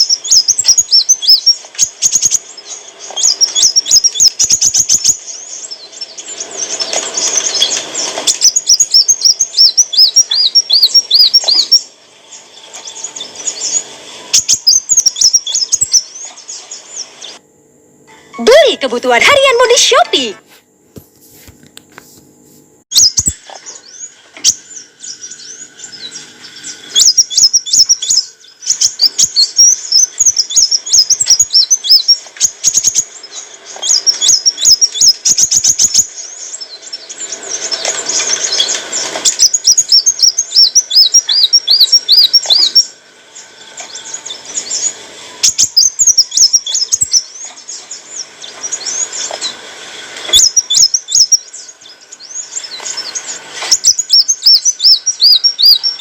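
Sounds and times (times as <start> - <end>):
bird high chirps and trills: 0.0 - 17.4, 18.1 - 20.4, 22.9 - 56.0.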